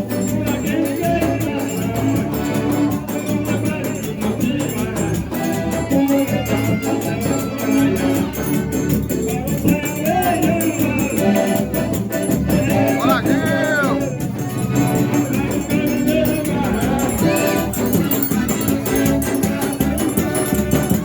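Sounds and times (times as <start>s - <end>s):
upbeat folk dance music: 0.0s - 21.0s.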